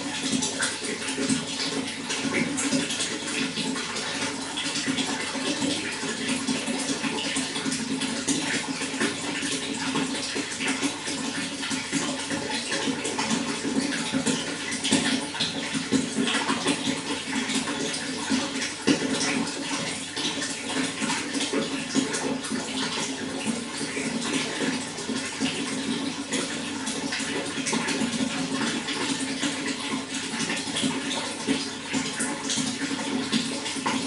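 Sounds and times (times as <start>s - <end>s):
low water gurgle: 0.0s - 34.0s
water flowing and splashing: 0.0s - 34.0s.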